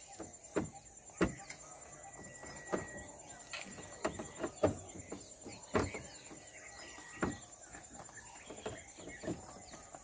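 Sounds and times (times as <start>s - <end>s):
faint bird chirps: 0.0s - 10.0s
insect chorus buzzing: 0.0s - 10.0s.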